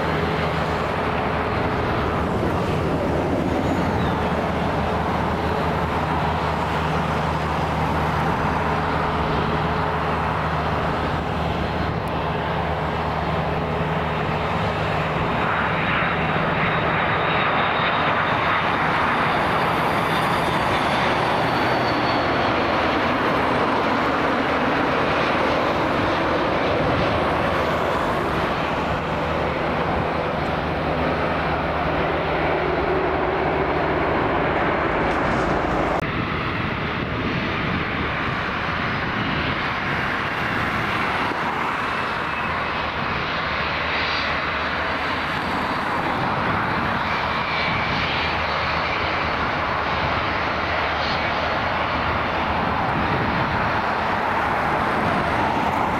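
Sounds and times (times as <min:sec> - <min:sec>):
high jet engine whine: 0:00.0 - 0:55.9
jet airliner rumble: 0:00.0 - 0:55.9.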